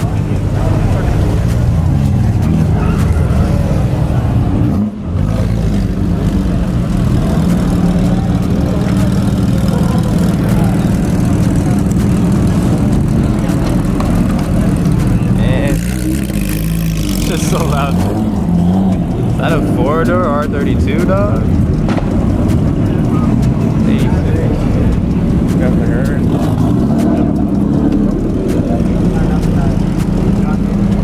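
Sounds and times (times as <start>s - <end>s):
car engines droning: 0.0s - 31.0s.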